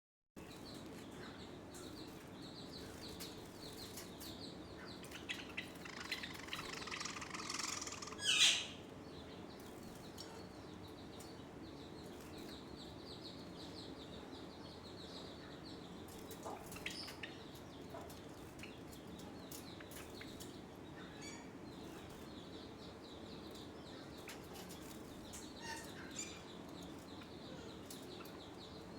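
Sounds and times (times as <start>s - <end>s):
sparrows chirping: 0.4s - 28.9s.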